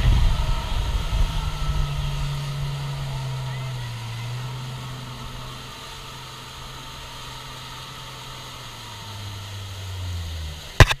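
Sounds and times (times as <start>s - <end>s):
wind hiss: 0.0s - 10.8s
motorboat engine drone: 0.0s - 11.0s
rushing water: 0.0s - 11.0s.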